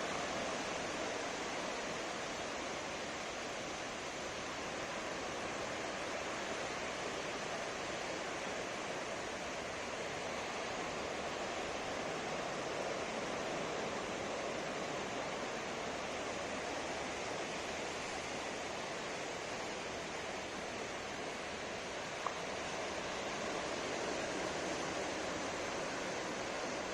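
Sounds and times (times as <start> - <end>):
ocean waves on beach: 0.0 - 26.9.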